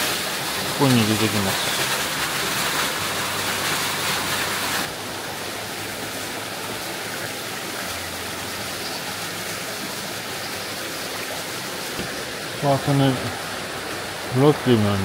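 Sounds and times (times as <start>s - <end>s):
steady hiss of water: 0.0s - 15.0s.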